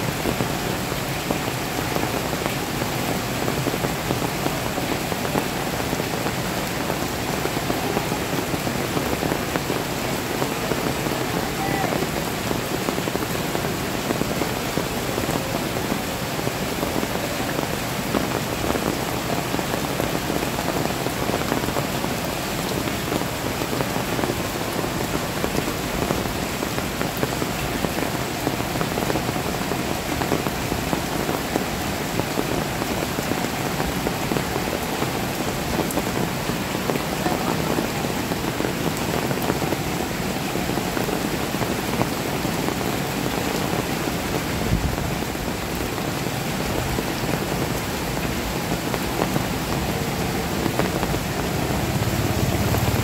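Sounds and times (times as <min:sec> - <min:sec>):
heavy rain on standing water: 0:00.0 - 0:53.0.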